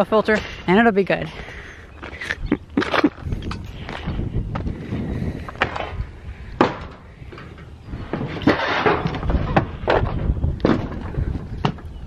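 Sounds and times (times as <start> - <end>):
wind rumble on microphone: 2.2 - 12.0.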